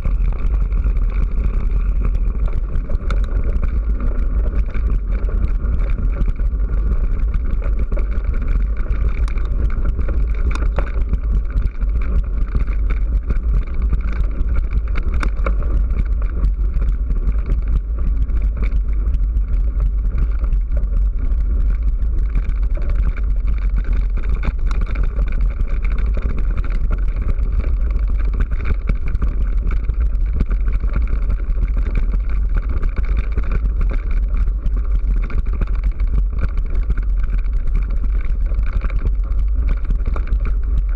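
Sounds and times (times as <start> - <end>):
rumble and rattle over gravel track: 0.0 - 40.9.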